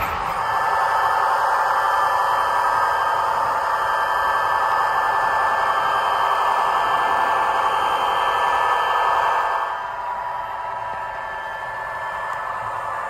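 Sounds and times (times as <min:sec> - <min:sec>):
model train whirring: 0:00.0 - 0:13.0.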